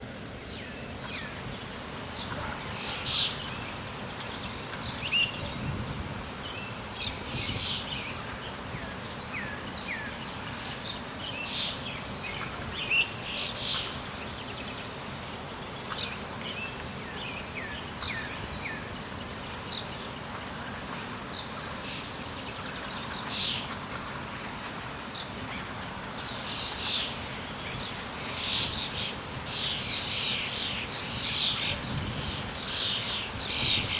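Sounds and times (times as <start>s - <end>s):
background hiss: 0.0s - 33.9s
birds chirping: 0.4s - 33.9s.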